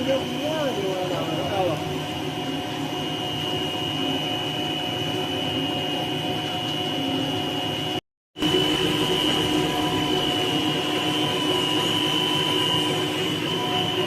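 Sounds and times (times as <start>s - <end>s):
high machine whine: 0.0s - 14.0s
machinery motor hum: 0.0s - 14.0s.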